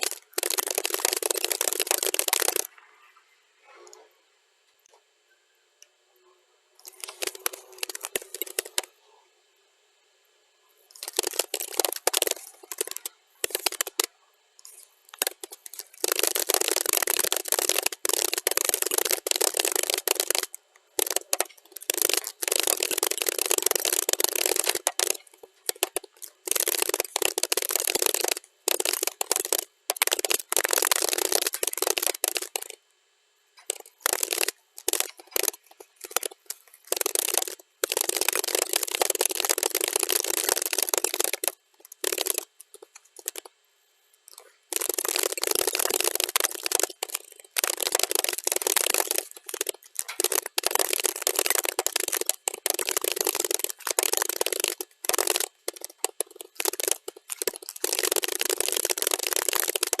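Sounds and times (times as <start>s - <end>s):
fast keyboard typing: 0.0s - 2.7s, 6.8s - 8.9s, 10.9s - 32.8s, 33.6s - 43.5s, 44.3s - 60.0s.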